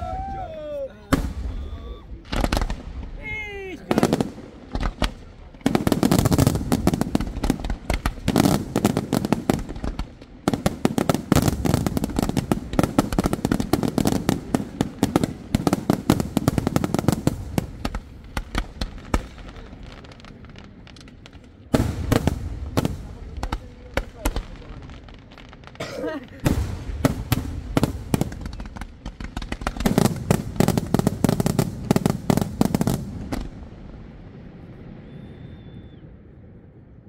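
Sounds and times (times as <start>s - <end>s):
fireworks bursts and bangs: 0.0s - 36.2s.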